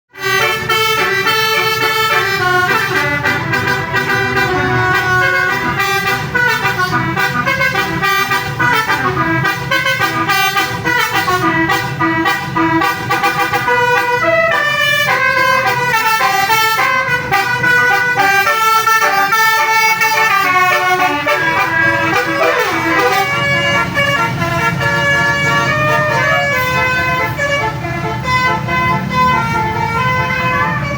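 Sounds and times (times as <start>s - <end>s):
multi-tone bus horn melody: 0.1s - 30.9s.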